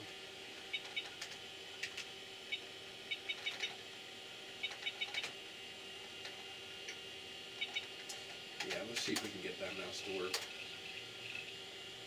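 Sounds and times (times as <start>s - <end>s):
computer hum: 0.0s - 12.0s.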